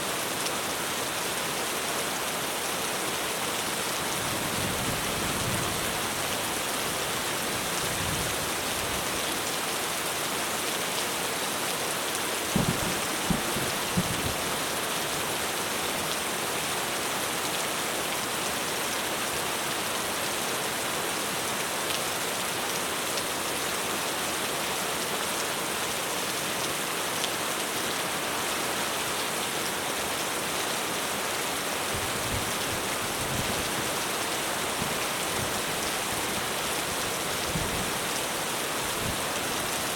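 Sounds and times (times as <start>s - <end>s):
heavy rain drumming on a roof: 0.0s - 39.9s.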